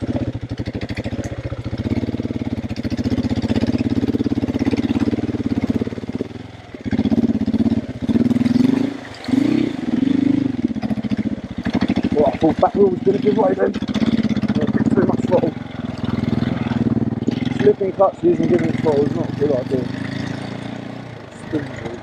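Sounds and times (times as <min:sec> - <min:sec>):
motorcycle engine under load: 0:00.0 - 0:22.0.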